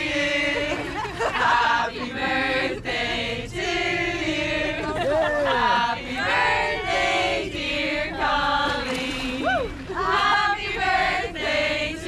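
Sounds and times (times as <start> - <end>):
women chanting together: 0.0 - 12.0.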